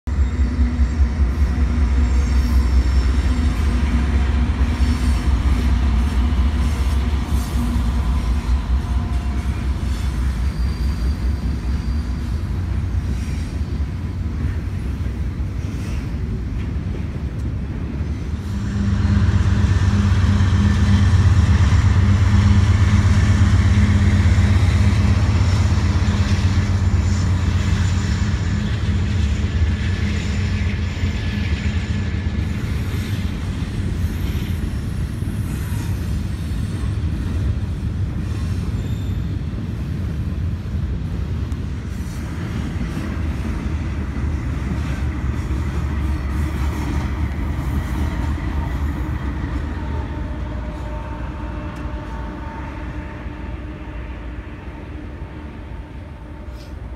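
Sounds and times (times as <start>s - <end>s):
diesel locomotive engines rumbling: 0.0s - 56.9s
steel wheels on rail: 0.1s - 56.9s.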